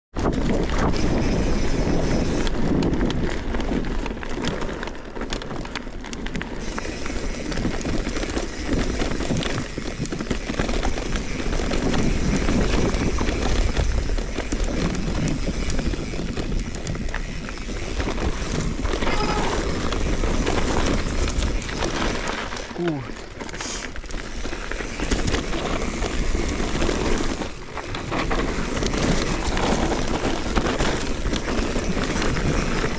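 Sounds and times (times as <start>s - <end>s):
bike rattles and clicks: 0.1s - 32.9s
tyres rumbling on dirt trail: 0.2s - 32.9s.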